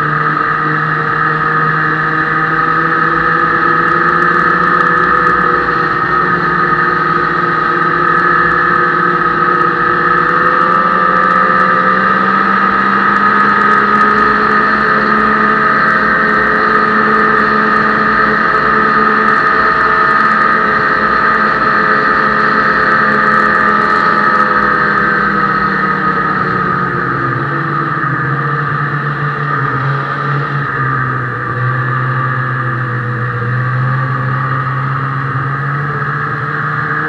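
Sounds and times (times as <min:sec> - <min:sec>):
snowmobile engine accelerating: 0:00.0 - 0:37.0
steady high whine: 0:00.0 - 0:37.0.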